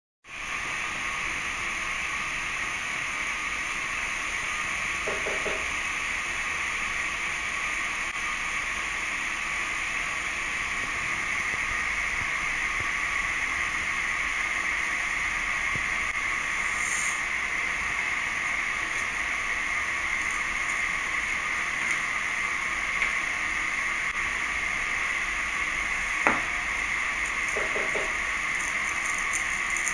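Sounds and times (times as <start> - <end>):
room noise hiss: 0.3 - 29.9.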